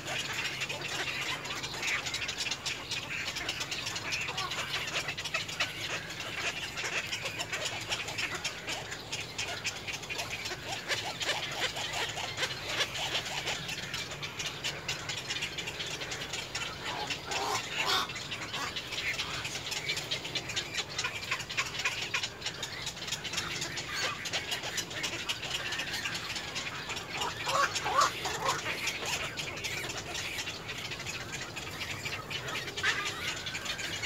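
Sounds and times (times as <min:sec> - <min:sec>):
clicking chattering bird calls: 0:00.0 - 0:34.0.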